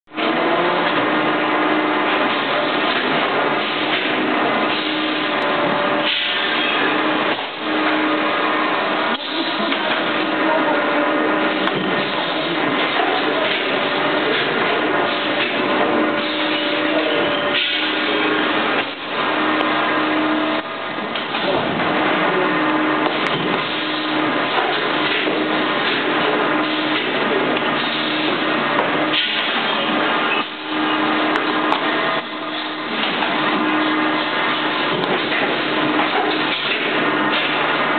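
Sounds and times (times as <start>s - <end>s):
conveyor belts running: 0.1s - 37.9s
machinery whirring hum: 0.1s - 37.9s.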